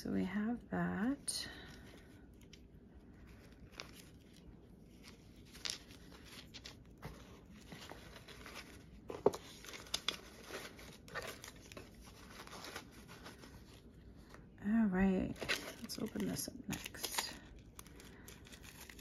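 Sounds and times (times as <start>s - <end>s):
packaging crinkling and rustling: 1.5s - 19.0s.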